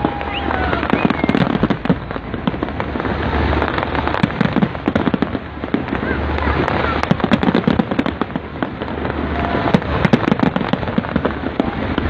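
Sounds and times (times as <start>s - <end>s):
deep fireworks booms: 0.0s - 12.0s
fireworks crackling and popping: 0.0s - 12.0s.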